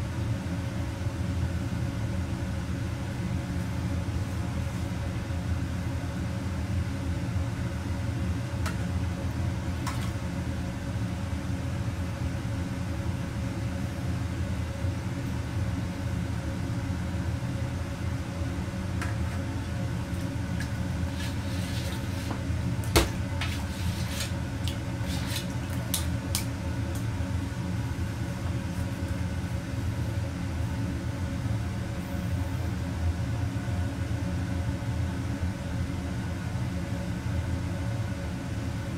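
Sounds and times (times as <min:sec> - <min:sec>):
ventilation hum: 0:00.0 - 0:38.9.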